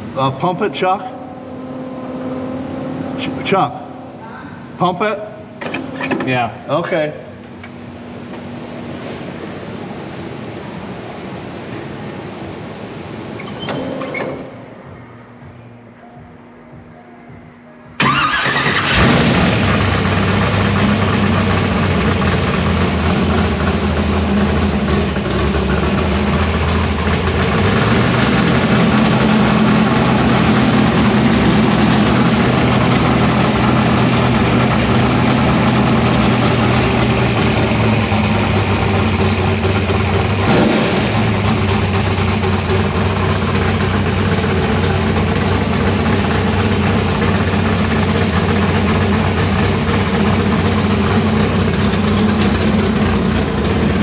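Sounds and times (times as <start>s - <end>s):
car engine idling: 0.0s - 6.0s, 6.9s - 13.2s, 18.0s - 54.0s.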